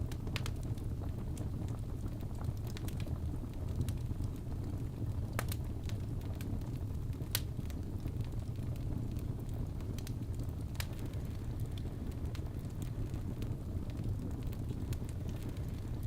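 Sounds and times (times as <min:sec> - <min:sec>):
fire crackles and pops: 0:00.0 - 0:16.0
low roar of flame: 0:00.0 - 0:16.0.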